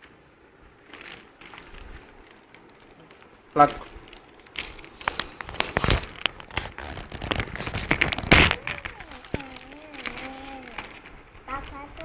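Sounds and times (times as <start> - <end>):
packaging crinkling: 0.7 - 12.0.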